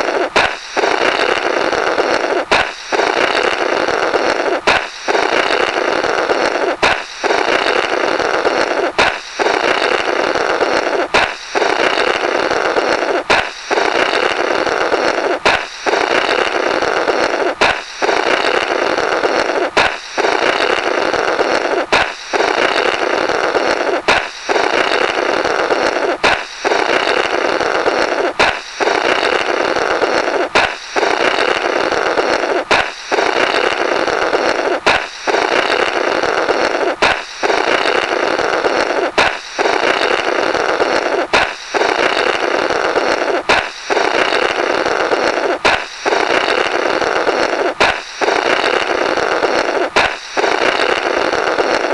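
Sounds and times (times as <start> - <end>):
balloon popping: 0.0 - 51.9
blowing through burst balloon: 0.0 - 51.9.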